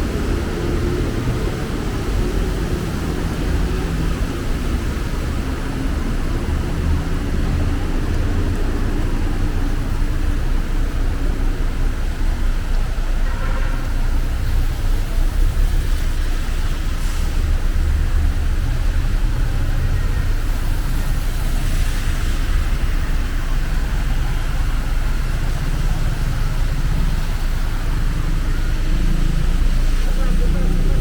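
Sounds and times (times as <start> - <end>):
city street traffic rumble: 0.0 - 31.0.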